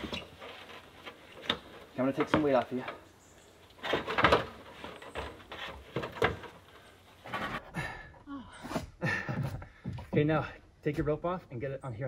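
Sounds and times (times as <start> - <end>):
log knocking and creaking: 0.0 - 3.1, 3.7 - 7.7, 8.6 - 11.2.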